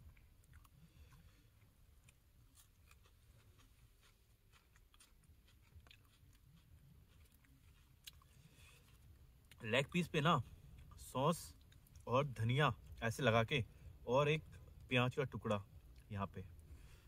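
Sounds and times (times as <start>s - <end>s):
soft chewing: 0.0s - 15.0s, 15.6s - 17.0s.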